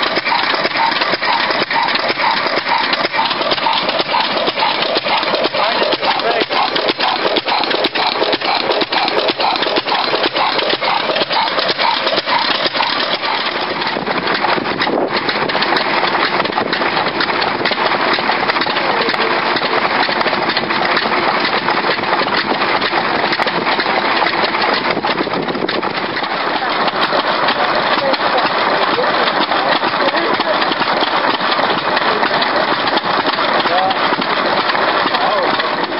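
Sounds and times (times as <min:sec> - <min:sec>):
stationary engines clattering: 0:00.0 - 0:35.9.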